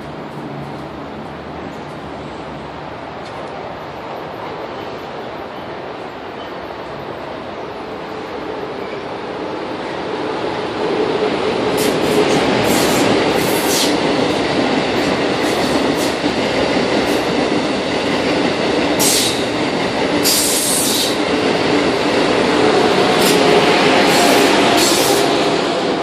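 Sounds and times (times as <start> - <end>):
train wheels rushing on rail: 0.0 - 26.0.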